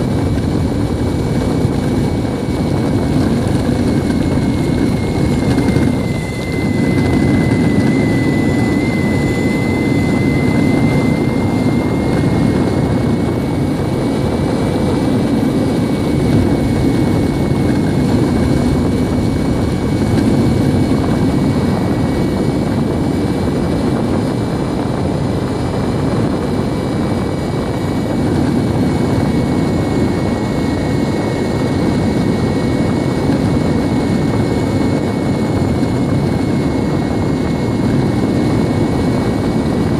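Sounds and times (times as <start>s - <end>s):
high electric motor whine: 0.0s - 39.9s
skateboard wheels roaring on asphalt: 0.0s - 39.9s.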